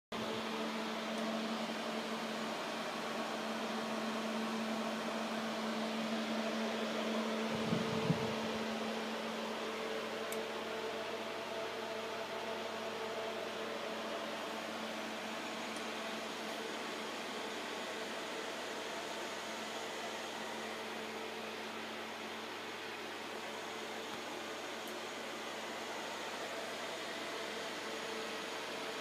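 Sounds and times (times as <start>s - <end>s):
cooling fans whirring: 0.2s - 29.0s.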